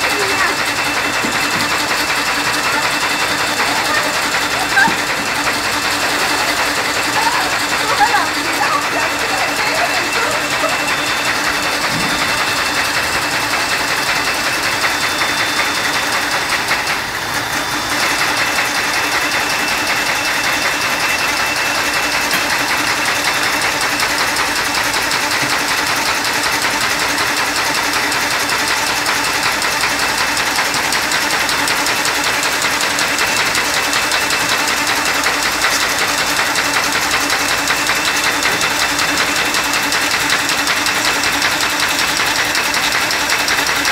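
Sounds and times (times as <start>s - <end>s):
paper folding machine clatter: 0.0s - 43.9s.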